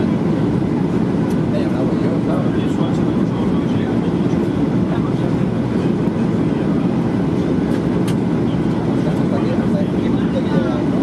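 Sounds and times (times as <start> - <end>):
airliner cabin engine roar: 0.0 - 11.0.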